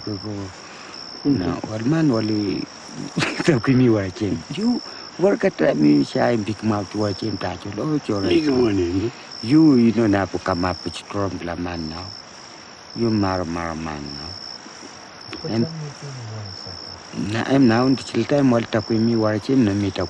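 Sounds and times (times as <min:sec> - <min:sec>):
man talking: 0:00.0 - 0:00.6, 0:01.3 - 0:12.1, 0:12.9 - 0:14.4, 0:15.3 - 0:20.0
insect chirping in high pulses: 0:00.0 - 0:20.0.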